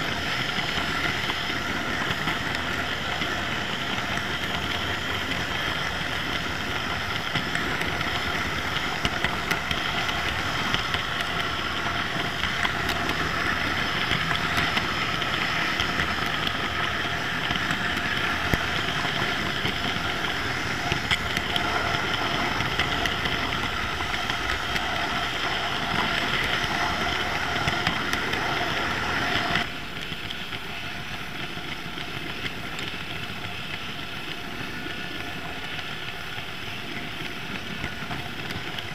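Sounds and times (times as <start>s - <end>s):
diesel locomotive engine sound: 0.0s - 38.9s
model train running on track: 0.0s - 38.9s.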